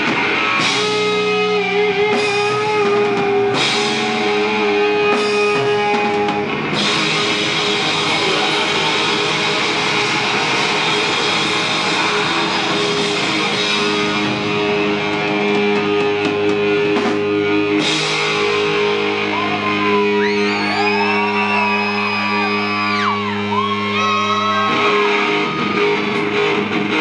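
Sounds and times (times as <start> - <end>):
bending guitar notes: 0.0 - 27.0
rock band playing: 0.0 - 27.0.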